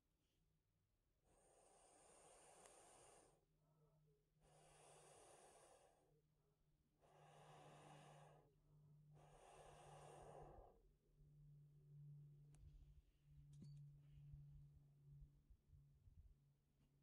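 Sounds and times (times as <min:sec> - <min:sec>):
faint low hum: 0:01.3 - 0:17.0.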